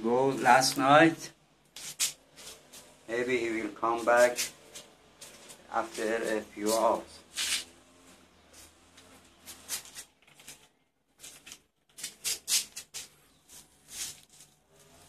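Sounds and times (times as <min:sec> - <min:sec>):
faint scratchy rustles: 0:01.8 - 0:15.0.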